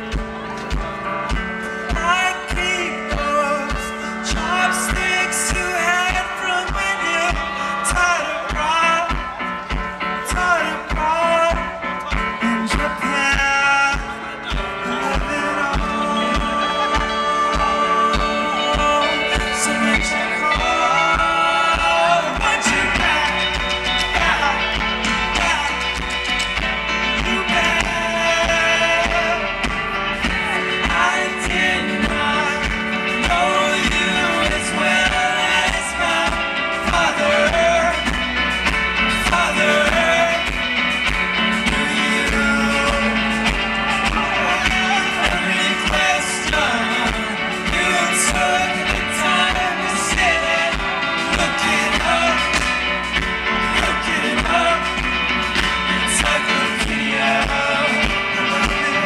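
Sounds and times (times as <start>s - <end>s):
person singing: 0.0s - 59.0s
rock band playing live: 0.0s - 59.0s
steady drum beat: 0.0s - 59.0s.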